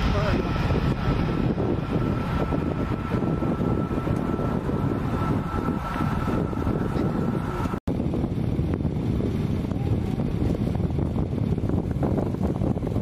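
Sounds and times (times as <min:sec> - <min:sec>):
jet engines rumbling and whining: 0:00.0 - 0:13.0
wind on microphone: 0:00.0 - 0:13.0.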